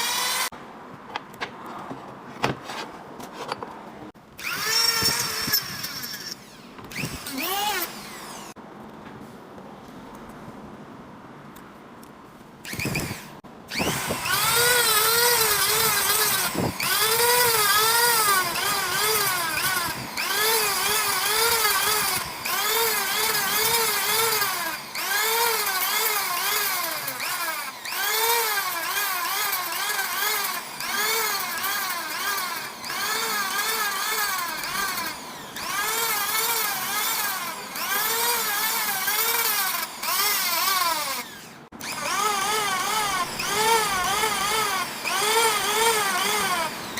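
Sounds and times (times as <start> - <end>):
power sander whining: 0.0 - 0.5, 4.4 - 8.6, 12.7 - 46.9.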